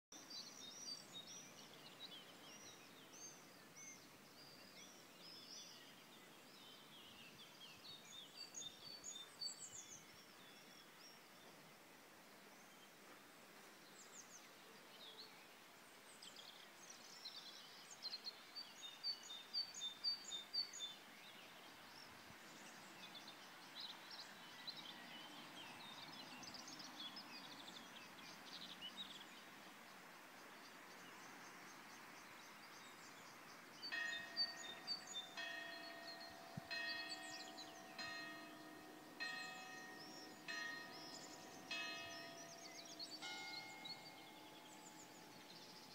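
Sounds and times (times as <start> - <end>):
songbirds singing and chirping: 0.1 - 45.9
faint steady hiss: 0.2 - 45.9.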